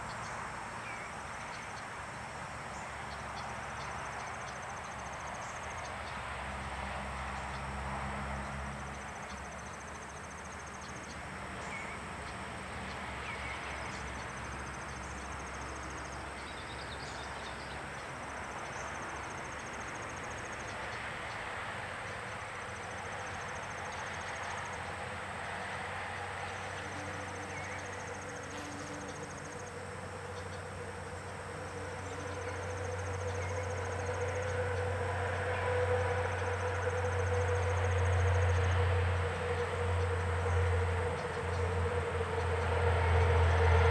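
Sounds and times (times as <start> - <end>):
vehicle engine hum approaching: 0.0 - 43.9.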